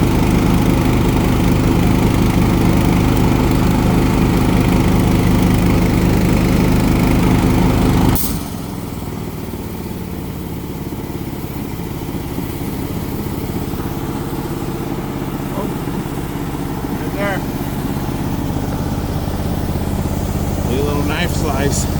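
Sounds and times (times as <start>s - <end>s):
small engine running: 0.0s - 21.9s.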